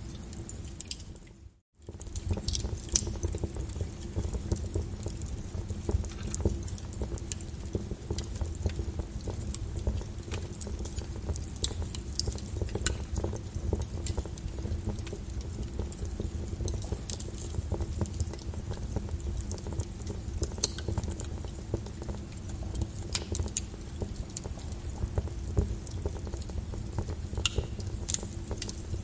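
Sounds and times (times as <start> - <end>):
fire crackling: 0.0 - 29.0
low rumble of flames: 0.0 - 29.0
burning wood popping: 0.3 - 29.0.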